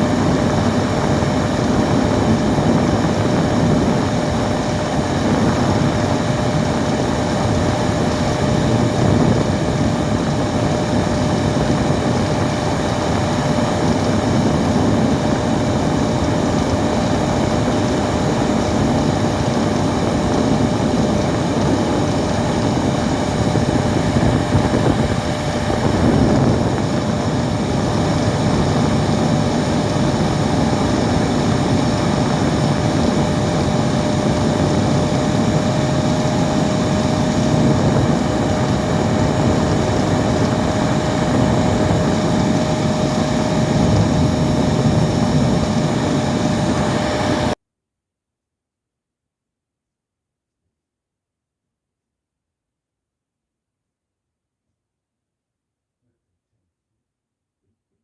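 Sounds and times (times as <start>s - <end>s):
vacuum cleaner running: 0.0s - 47.6s.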